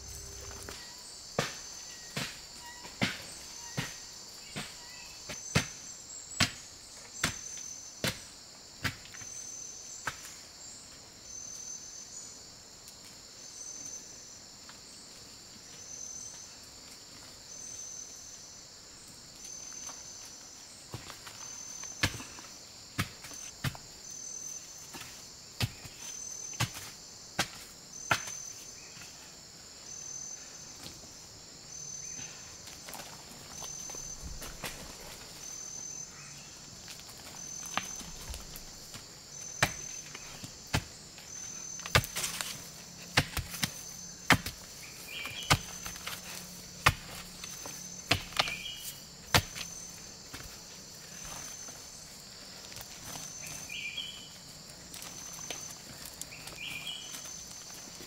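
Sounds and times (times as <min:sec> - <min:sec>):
forest insects buzzing: 0:00.0 - 0:58.0.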